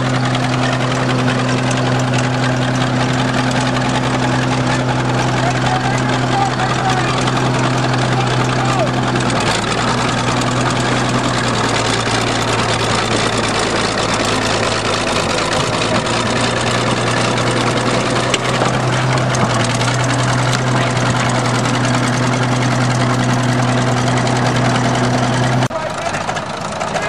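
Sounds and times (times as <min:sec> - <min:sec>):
bulldozer diesel engine droning: 0:00.0 - 0:27.0.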